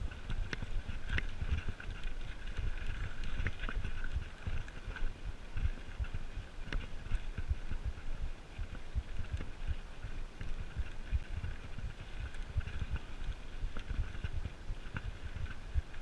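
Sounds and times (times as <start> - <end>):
bike rattling: 0.0 - 16.0
bike tyres crunching on dirt: 0.0 - 16.0
wind rumble on microphone: 0.0 - 16.0.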